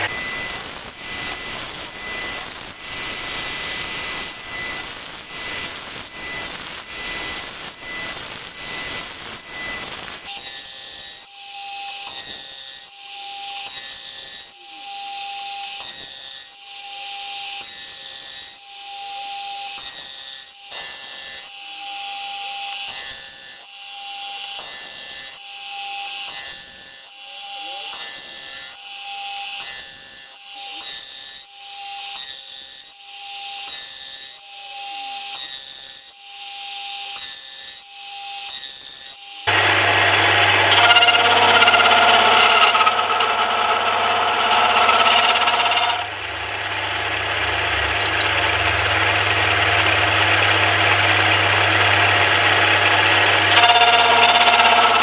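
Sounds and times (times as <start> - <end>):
gear cutter rasping through metal: 0.0 - 18.7, 19.3 - 55.0.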